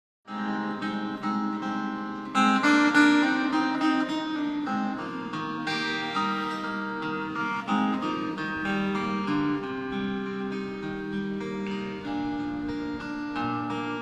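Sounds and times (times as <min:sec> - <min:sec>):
acoustic guitar picking: 0:00.3 - 0:14.0.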